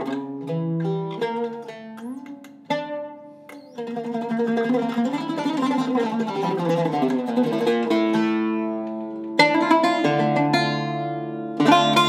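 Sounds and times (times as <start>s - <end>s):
oud played with a plectrum: 0.0s - 12.0s.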